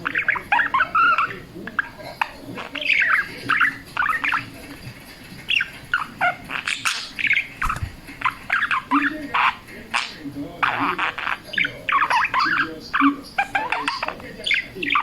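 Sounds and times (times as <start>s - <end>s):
budgerigar warbling: 0.0s - 4.5s, 5.5s - 15.0s.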